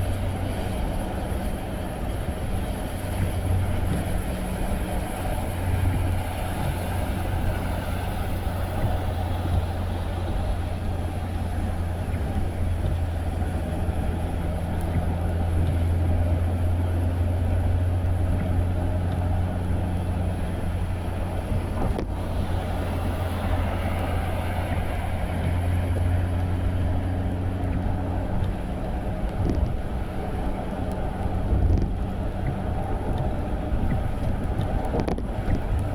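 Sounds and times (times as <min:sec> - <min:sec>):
car engine and road rumble: 0:00.0 - 0:35.9.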